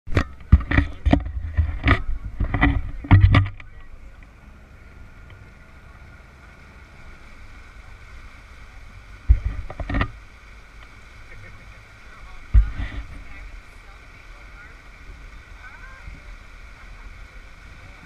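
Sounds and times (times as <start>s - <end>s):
boat engine hum: 0.0s - 18.0s.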